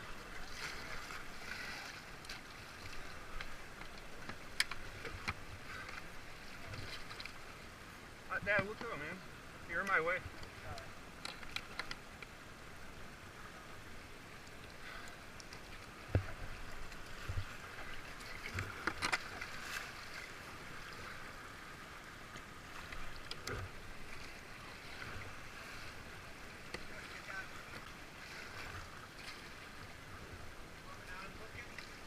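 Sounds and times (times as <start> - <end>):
paddle splashes: 0.0 - 12.1, 13.5 - 32.0.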